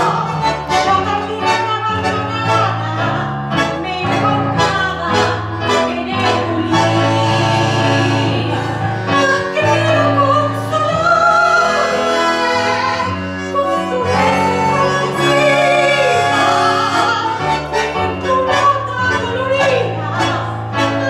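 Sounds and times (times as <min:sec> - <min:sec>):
bandoneon playing chords: 0:00.0 - 0:21.0
woman singing with vibrato: 0:00.0 - 0:21.0.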